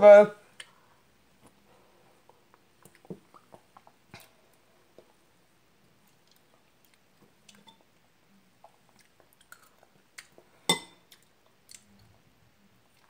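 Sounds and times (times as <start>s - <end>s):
faint chewing: 0.6s - 5.2s, 6.0s - 13.0s.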